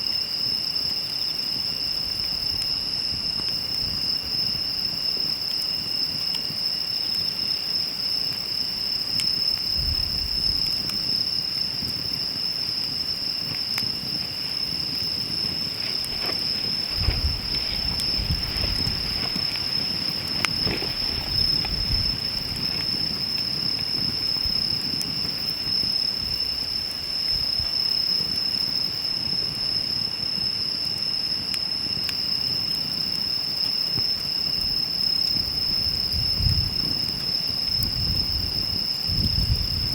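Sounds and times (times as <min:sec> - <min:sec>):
insects chirring: 0:00.0 - 0:39.9
wood fire crackling: 0:00.2 - 0:39.9.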